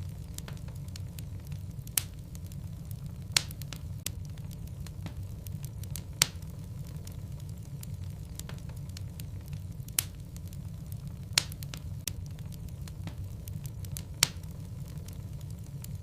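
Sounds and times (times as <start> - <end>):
fire crackling: 0.0 - 16.0
sharp pops from fire: 0.0 - 16.0.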